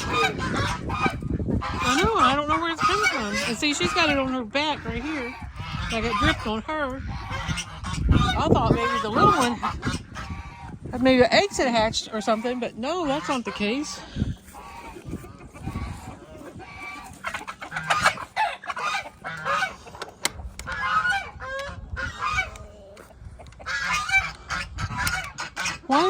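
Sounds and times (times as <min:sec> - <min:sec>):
farm birds calling: 0:00.0 - 0:26.0.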